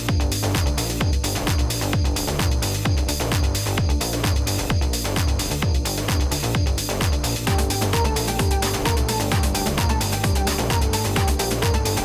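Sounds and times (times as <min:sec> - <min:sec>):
deep kick drum: 0:00.0 - 0:12.0
electronic music: 0:00.0 - 0:12.0.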